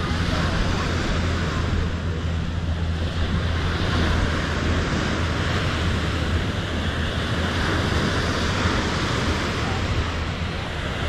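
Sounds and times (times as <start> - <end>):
low hum: 0.0 - 11.0
ocean surf: 0.0 - 11.0
wind rumbling on microphone: 0.0 - 11.0.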